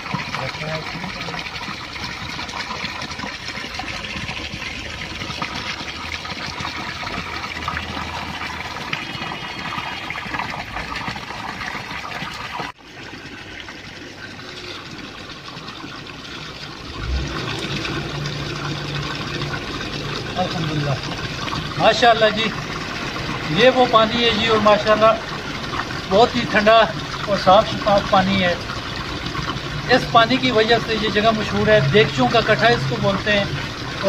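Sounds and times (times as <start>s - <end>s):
water pouring onto rocks: 0.0s - 34.0s.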